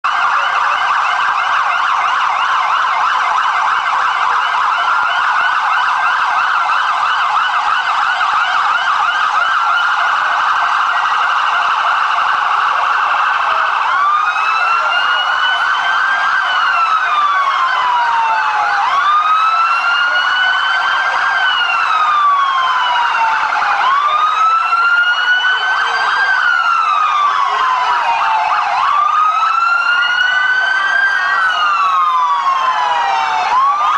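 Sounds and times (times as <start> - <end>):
police sirens: 0.0 - 33.9.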